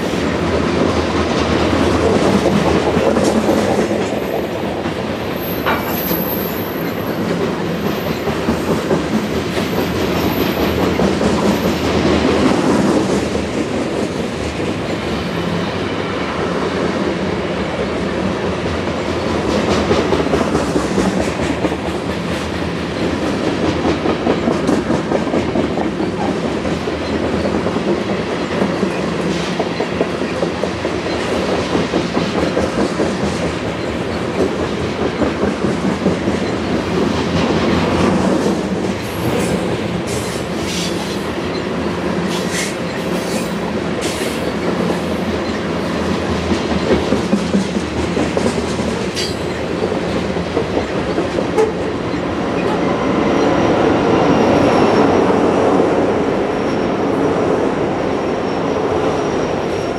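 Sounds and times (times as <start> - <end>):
train wheels clattering over rails: 0.0 - 55.6.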